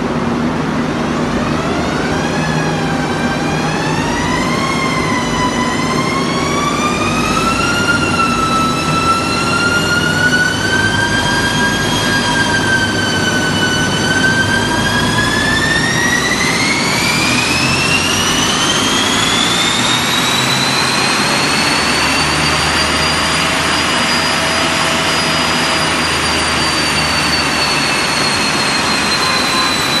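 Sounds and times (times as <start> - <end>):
high mechanical whine: 0.0 - 30.0.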